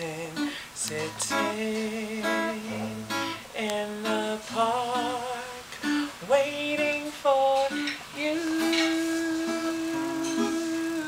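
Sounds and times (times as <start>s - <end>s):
acoustic guitar: 0.0s - 11.0s
woman singing: 0.0s - 11.0s.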